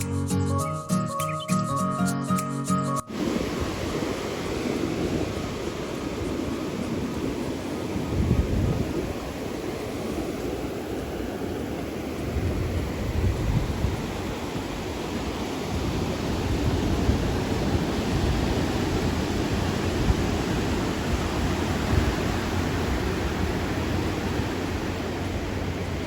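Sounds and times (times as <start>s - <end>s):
ocean surf washing on beach: 3.1s - 26.0s.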